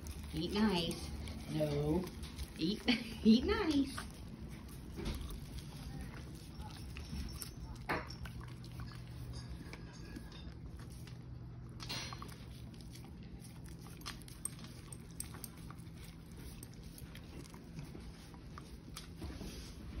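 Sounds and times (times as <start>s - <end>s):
dog crunching corn cob: 0.0s - 19.3s
faint low hum: 0.0s - 20.0s.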